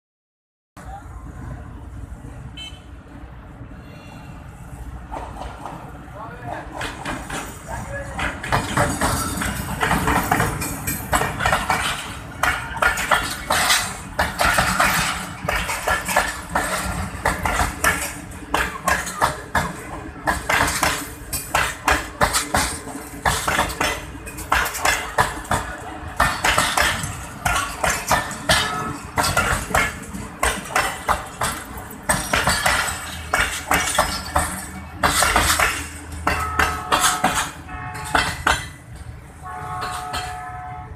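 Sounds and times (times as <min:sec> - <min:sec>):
train rumble: 0:00.8 - 0:40.9
train wheels clattering on rails: 0:04.0 - 0:40.9.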